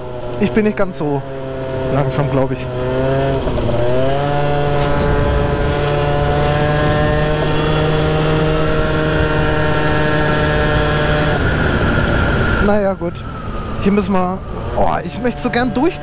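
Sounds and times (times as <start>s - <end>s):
scooter engine at high revs: 0.0s - 12.9s, 14.4s - 16.0s.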